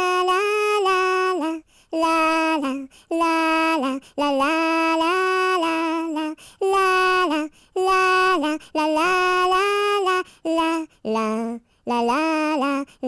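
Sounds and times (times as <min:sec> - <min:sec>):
person singing unaccompanied: 0:00.0 - 0:13.0.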